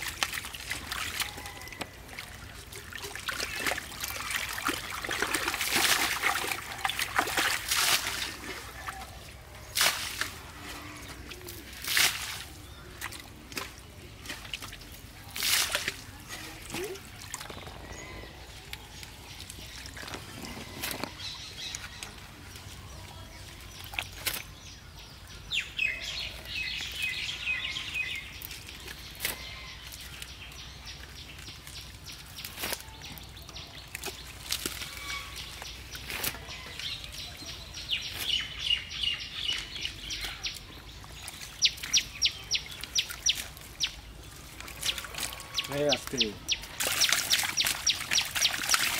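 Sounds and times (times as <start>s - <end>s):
small birds chirping: 3.0s - 48.9s.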